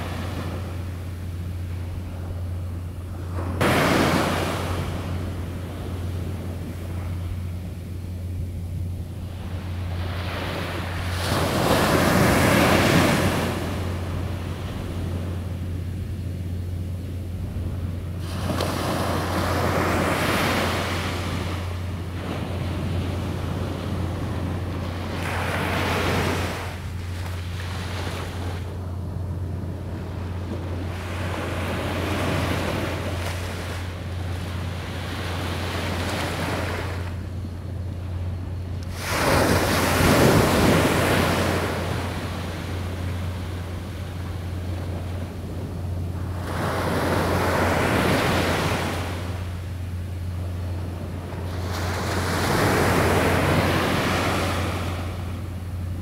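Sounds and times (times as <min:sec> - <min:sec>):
small waves breaking on beach: 0:00.0 - 0:00.8, 0:03.3 - 0:07.2, 0:09.3 - 0:15.2, 0:18.2 - 0:28.8, 0:29.5 - 0:37.2, 0:38.8 - 0:56.0
low hum: 0:00.0 - 0:56.0.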